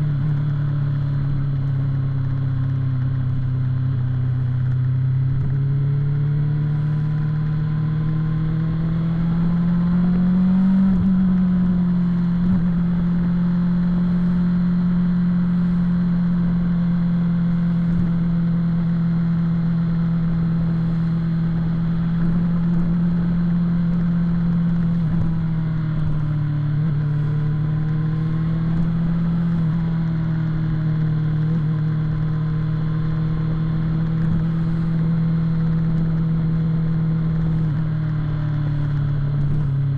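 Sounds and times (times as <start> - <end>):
motorcycle engine at highway speed: 0.0 - 39.9.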